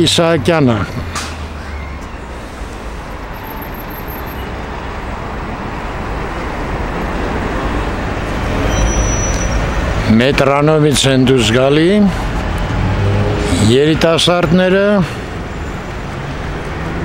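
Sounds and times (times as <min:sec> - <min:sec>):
approaching vehicle: 0:00.0 - 0:17.0
road traffic rumble: 0:00.0 - 0:17.0.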